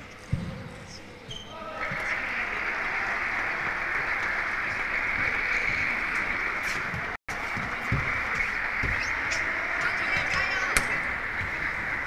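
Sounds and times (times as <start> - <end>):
crowd applause: 1.8 - 12.0.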